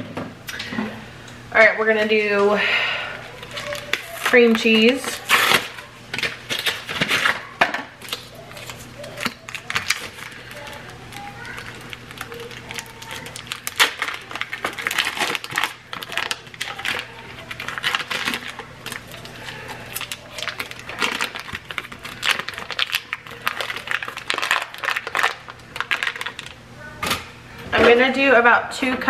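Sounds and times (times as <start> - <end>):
foil wrapper crinkling: 3.2 - 27.3.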